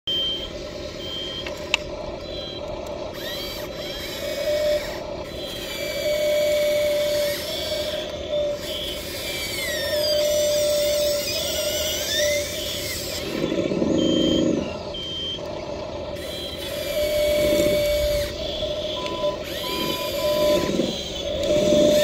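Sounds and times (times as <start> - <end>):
electric motors whining: 0.1 - 22.0.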